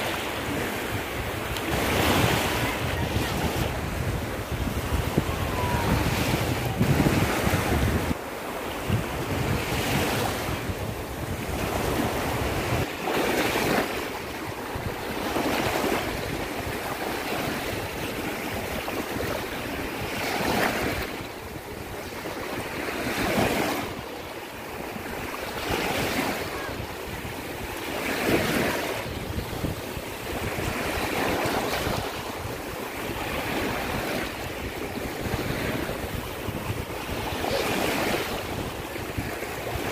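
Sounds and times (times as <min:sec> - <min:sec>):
small waves washing onto sand: 0:00.0 - 0:39.9
wind buffeting microphone: 0:00.0 - 0:39.9.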